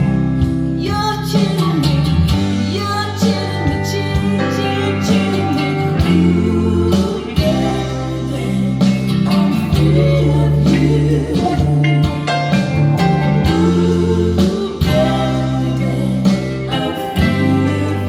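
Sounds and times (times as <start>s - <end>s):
song with singing and guitar: 0.0s - 18.0s.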